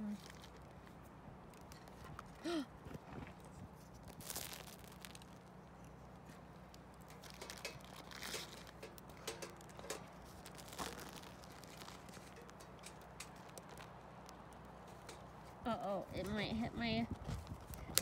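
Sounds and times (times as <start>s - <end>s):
faint rustles and crinkles: 0.0s - 18.0s.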